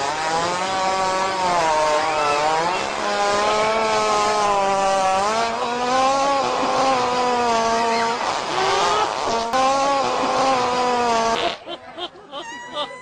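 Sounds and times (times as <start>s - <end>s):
hippopotamus farting: 0.0s - 11.7s.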